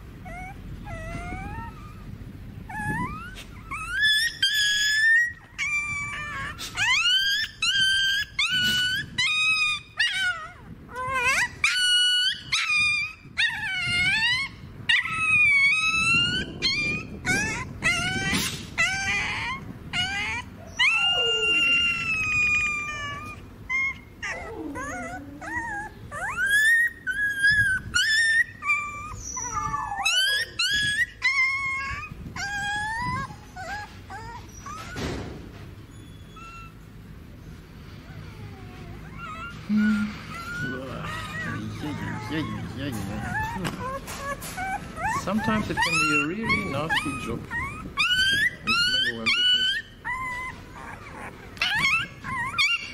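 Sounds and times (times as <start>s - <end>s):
puppies whining and yelping: 0.0s - 52.9s.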